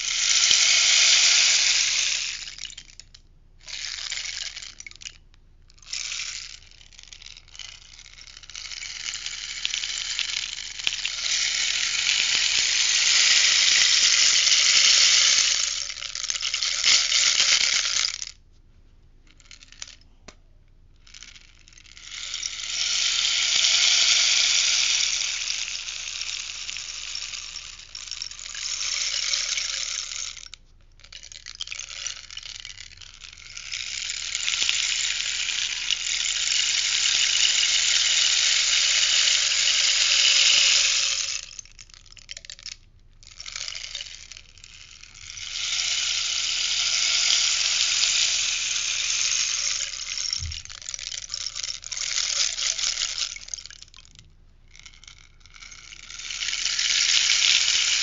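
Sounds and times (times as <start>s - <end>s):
rainstick pellets trickling: 0.0s - 5.2s, 5.8s - 18.4s, 19.3s - 20.2s, 21.0s - 58.0s.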